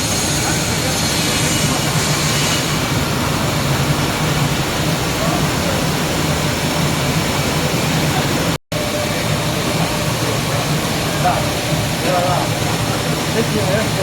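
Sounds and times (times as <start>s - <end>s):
extrusion machinery humming and hissing: 0.0s - 14.0s.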